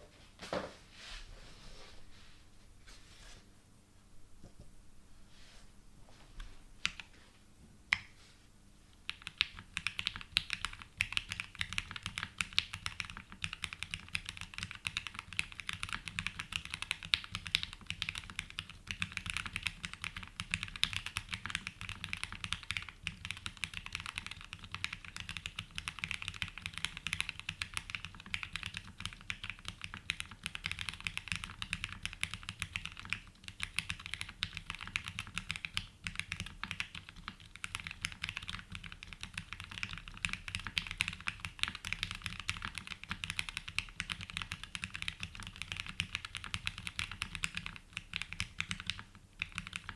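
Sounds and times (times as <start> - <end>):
typing on mechanical keyboard: 9.1 - 49.9.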